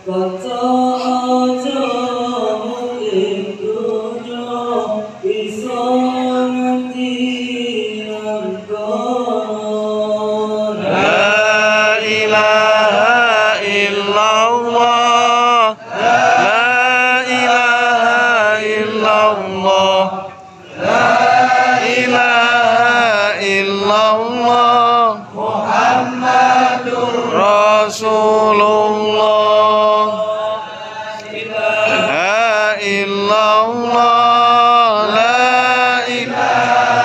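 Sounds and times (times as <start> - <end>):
men chanting melodically: 0.0 - 37.0.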